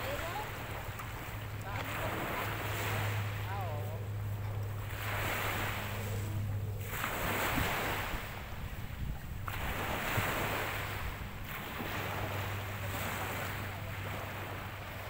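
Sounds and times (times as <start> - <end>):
sea water washing in shallows: 0.0 - 15.0
steady low hum: 0.0 - 15.0.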